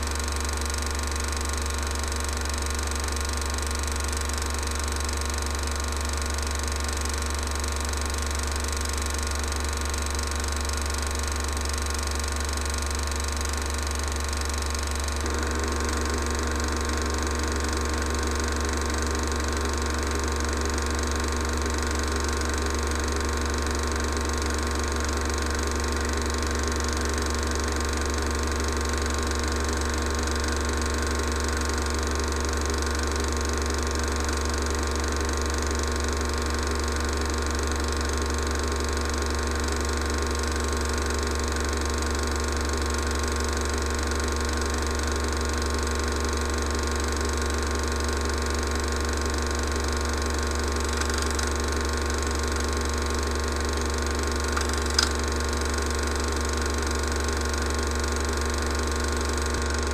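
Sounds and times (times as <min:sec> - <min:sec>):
film projector whirring: 0:00.0 - 0:59.9.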